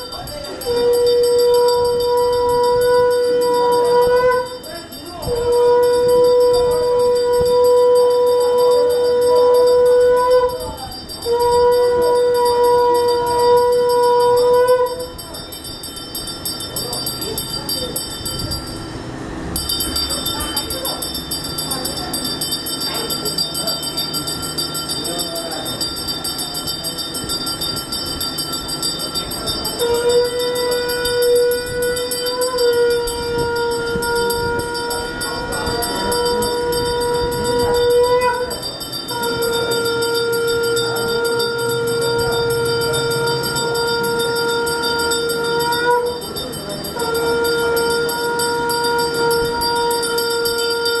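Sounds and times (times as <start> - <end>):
bell ringing rapidly: 0.0 - 51.0
conch shell blown: 0.0 - 51.0.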